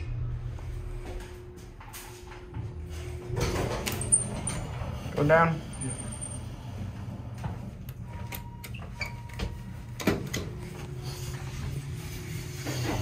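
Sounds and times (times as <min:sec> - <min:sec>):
steady elevator hum: 0:00.0 - 0:13.0.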